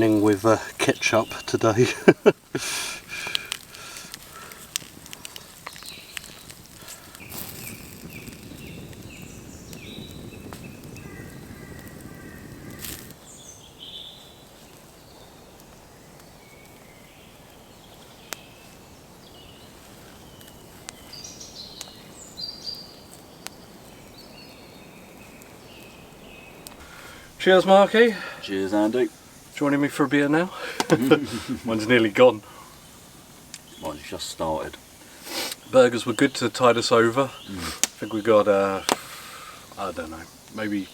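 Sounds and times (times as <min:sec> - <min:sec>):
birds chirping: 0:00.0 - 0:40.9
campfire crackling: 0:00.0 - 0:40.9.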